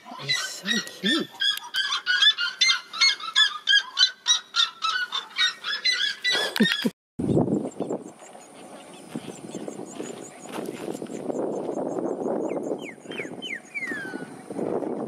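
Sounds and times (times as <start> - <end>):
bird yelping calls: 0.0 - 6.9, 7.7 - 14.6.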